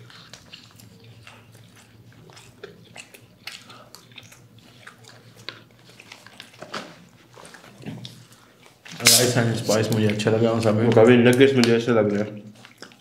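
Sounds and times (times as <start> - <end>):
chewing and crunching: 0.0 - 13.0.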